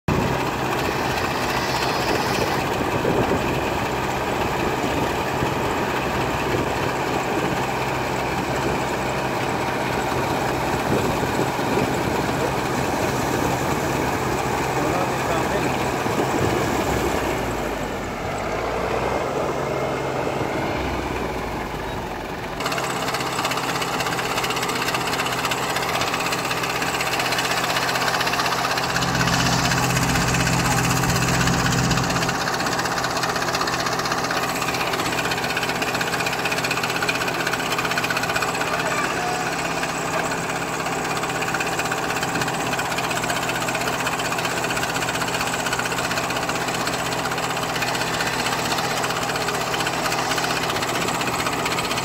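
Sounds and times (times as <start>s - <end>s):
diesel engine running: 0.0s - 52.0s
backhoe digging gravel: 0.1s - 20.5s, 22.6s - 52.0s.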